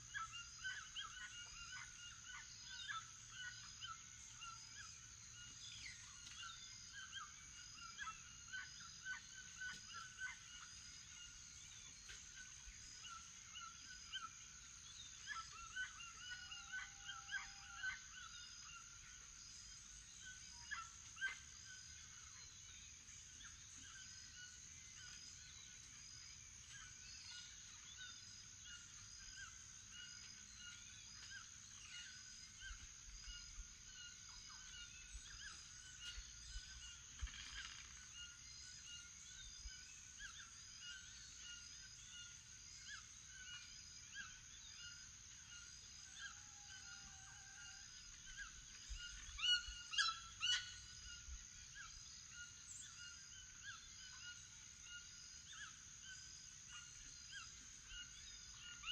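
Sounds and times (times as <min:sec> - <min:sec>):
bird chorus: 0:00.0 - 0:58.9.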